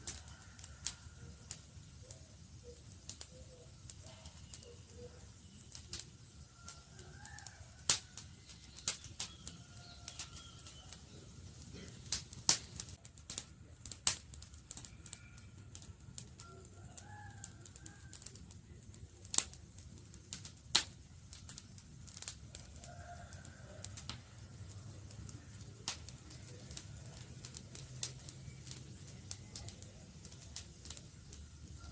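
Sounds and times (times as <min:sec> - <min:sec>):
campfire crackling and popping: 0:00.0 - 0:31.9
low rush of flames: 0:00.0 - 0:31.9.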